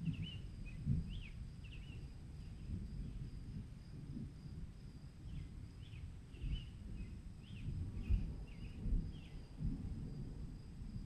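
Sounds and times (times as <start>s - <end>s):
gusting wind: 0.0s - 11.0s.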